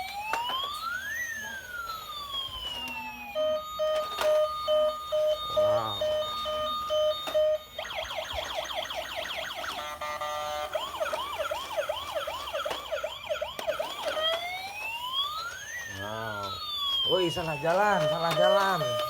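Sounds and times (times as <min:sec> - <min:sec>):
toy police car siren: 0:00.0 - 0:19.0.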